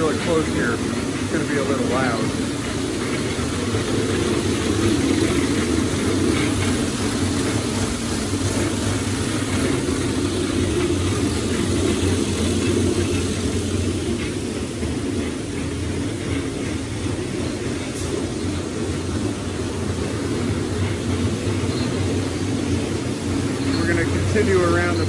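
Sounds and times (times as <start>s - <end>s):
floor grinder droning: 0.0s - 25.0s.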